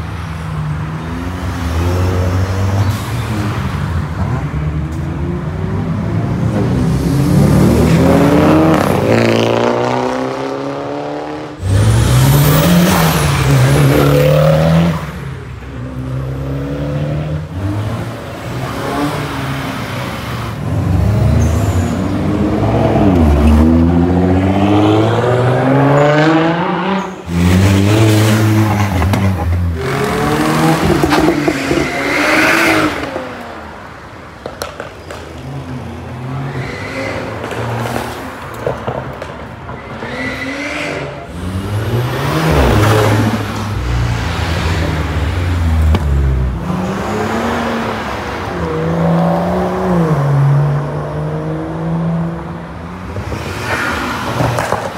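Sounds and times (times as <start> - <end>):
cars revving and accelerating: 0.0 - 54.9.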